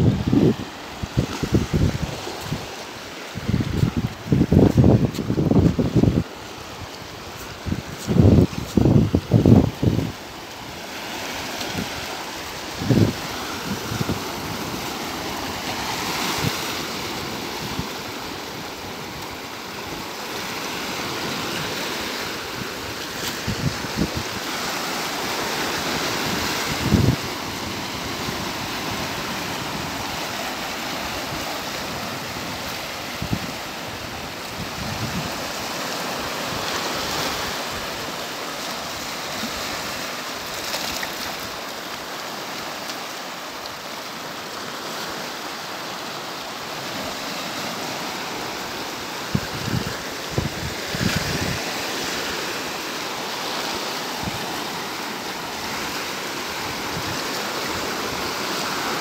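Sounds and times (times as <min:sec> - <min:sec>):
waves breaking over rock: 0:00.0 - 0:59.0.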